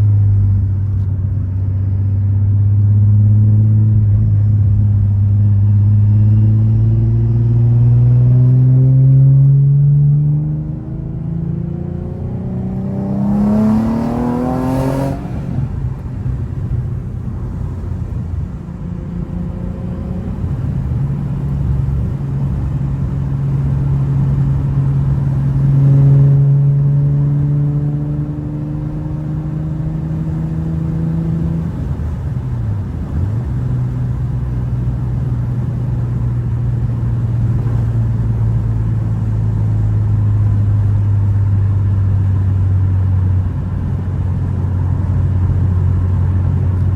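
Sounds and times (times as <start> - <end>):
car engine accelerating: 0.0 - 46.9
road noise: 0.0 - 46.9.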